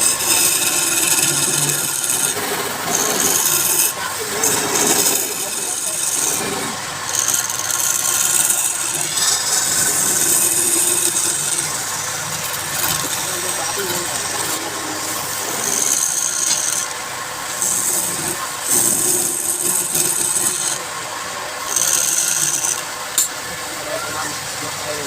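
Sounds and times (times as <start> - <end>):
wood lathe rasping hiss: 0.0 - 23.1.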